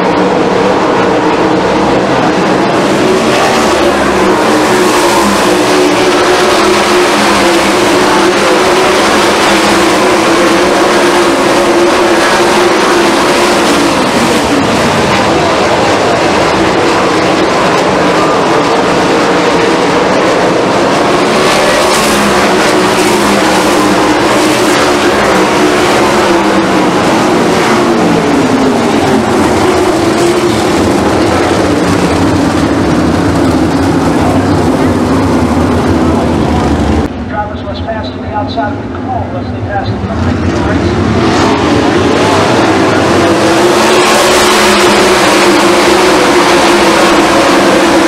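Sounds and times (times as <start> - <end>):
racing car engines roaring: 0.0 - 48.0.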